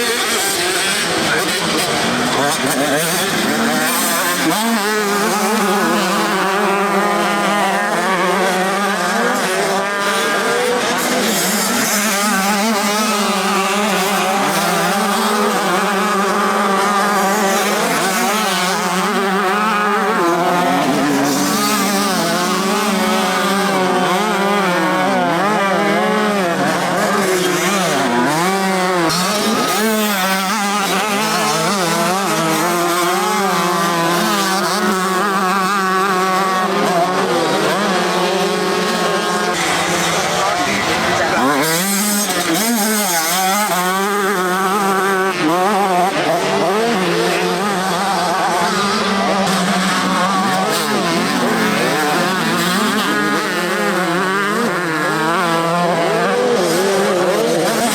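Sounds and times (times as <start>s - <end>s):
motocross bikes revving: 0.0s - 57.9s.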